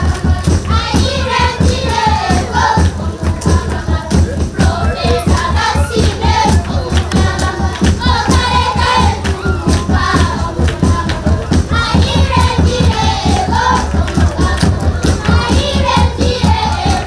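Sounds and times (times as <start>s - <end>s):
children singing: 0.0s - 17.0s
hand-clapping: 0.0s - 17.0s
steady beat: 0.0s - 17.0s.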